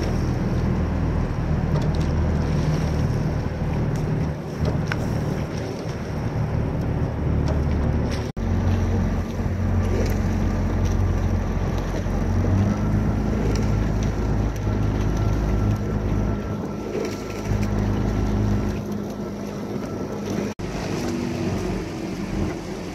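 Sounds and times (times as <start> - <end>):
outboard motor running: 0.0 - 22.9.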